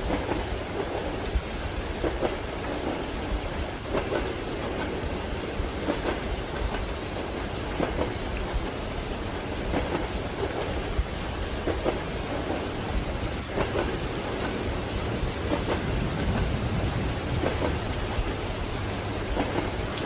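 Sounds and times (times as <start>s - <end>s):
steady rain: 0.0s - 20.0s
train wheels clacking on rails: 0.0s - 20.0s.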